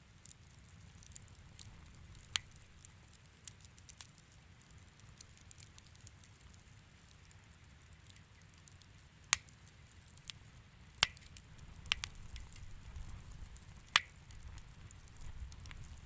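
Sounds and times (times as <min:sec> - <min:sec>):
low rumble of flame: 0:00.0 - 0:16.0
fire sharp pops: 0:00.2 - 0:06.6, 0:07.2 - 0:16.0.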